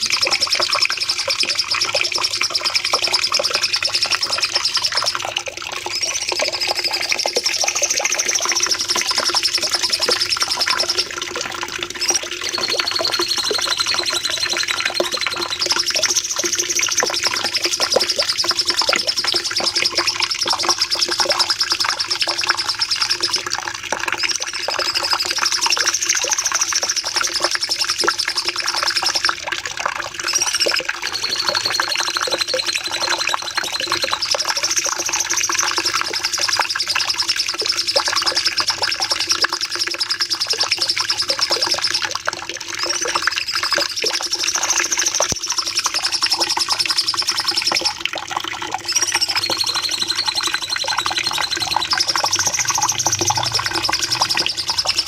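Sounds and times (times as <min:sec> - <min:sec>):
bird singing rapid high trills: 0:00.0 - 0:23.6, 0:24.2 - 0:29.3, 0:30.2 - 0:42.1, 0:42.8 - 0:48.0, 0:48.8 - 0:55.0.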